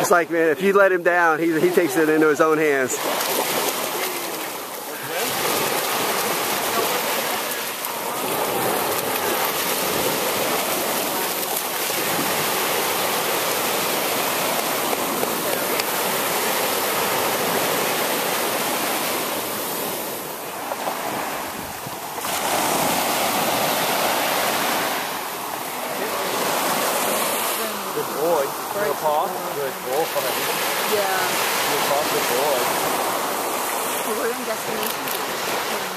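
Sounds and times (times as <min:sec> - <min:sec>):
waves breaking on beach: 0:00.0 - 0:35.9.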